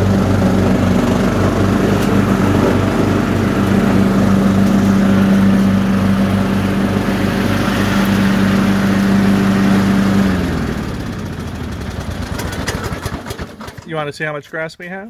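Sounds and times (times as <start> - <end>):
riding lawn mower running: 0.0 - 14.1.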